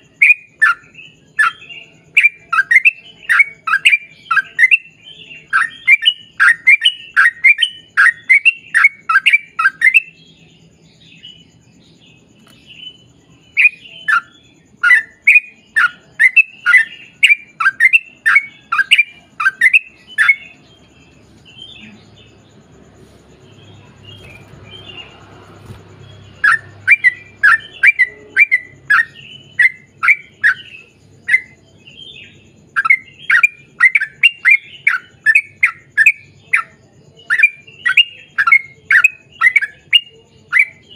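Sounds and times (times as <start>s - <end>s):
bulbul whistled song: 0.0s - 11.6s, 12.2s - 22.2s, 23.3s - 40.9s.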